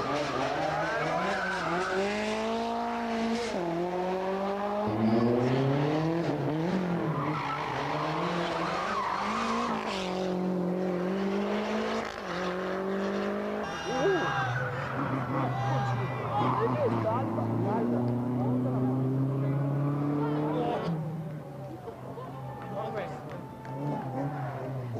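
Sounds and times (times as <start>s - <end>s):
car engine revving hard: 0.0s - 13.8s, 14.6s - 21.2s
tyres skidding on tarmac: 0.0s - 24.9s.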